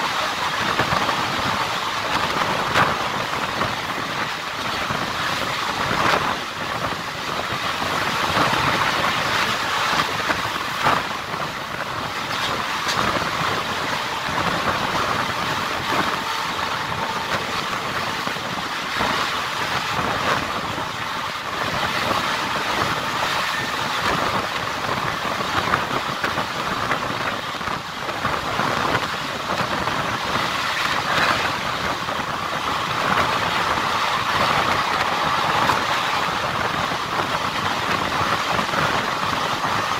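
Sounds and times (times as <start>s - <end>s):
train wheels rushing on rails: 0.0s - 39.9s.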